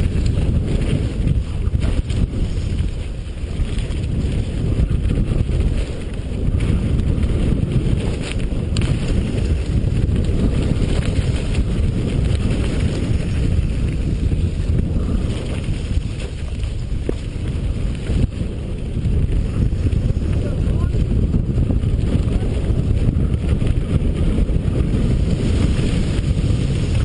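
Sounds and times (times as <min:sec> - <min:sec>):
bike clacking over bumps: 0:00.0 - 0:27.0
tyres rumbling on dirt: 0:00.0 - 0:27.0
wind rushing over microphone: 0:00.0 - 0:27.0.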